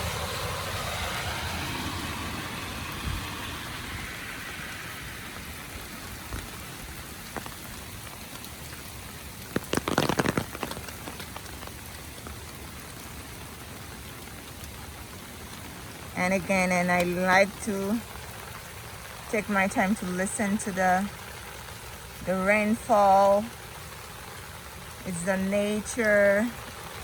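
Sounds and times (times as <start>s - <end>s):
rain falling on street: 0.0s - 27.0s.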